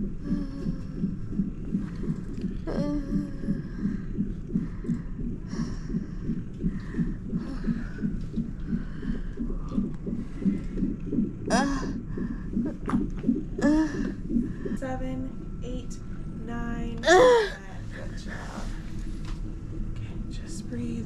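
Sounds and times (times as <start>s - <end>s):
doppler fetal heartbeat pulse: 0.0s - 20.5s.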